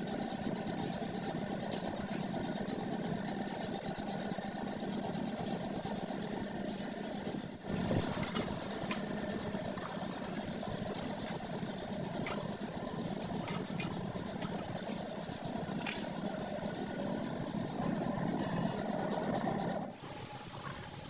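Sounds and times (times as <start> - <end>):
mechanical running sound: 0.0 - 21.0.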